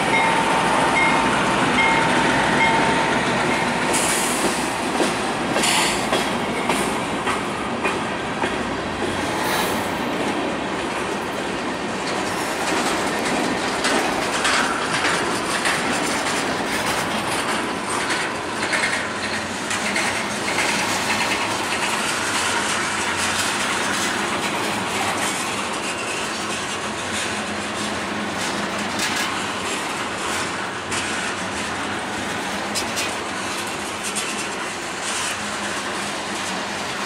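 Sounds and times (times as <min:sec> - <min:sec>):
train wheels rumbling on rail: 0:00.0 - 0:37.0
wheels clicking over rail joints: 0:00.1 - 0:09.3, 0:09.9 - 0:37.0.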